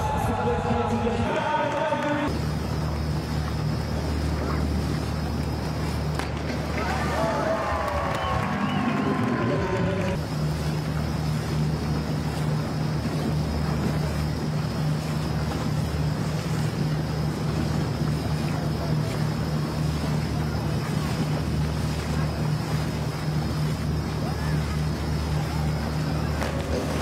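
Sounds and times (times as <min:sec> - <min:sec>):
motor humming: 0:02.3 - 0:27.0.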